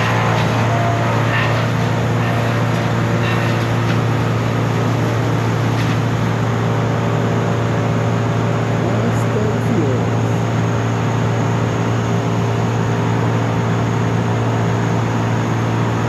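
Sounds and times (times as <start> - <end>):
large machine engine humming: 0.0 - 16.0.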